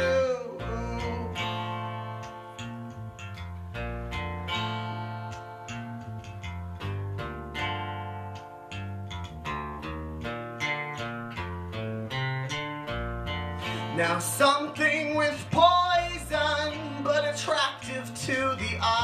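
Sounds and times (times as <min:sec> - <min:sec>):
acoustic guitar strummed: 0:00.0 - 0:19.0
electric bass line: 0:00.0 - 0:19.0.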